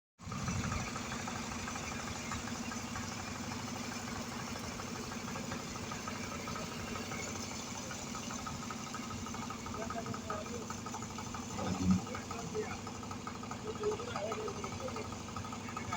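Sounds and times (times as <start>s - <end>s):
machinery engine running: 0.2s - 15.9s.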